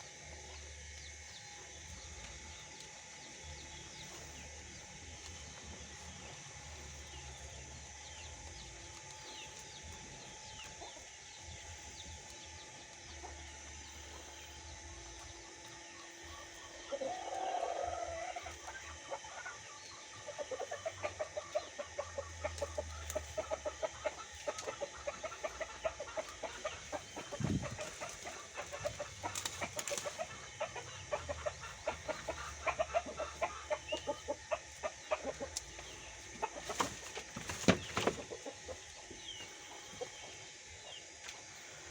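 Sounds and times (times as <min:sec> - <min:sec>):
chickens clucking: 0:00.2 - 0:41.9.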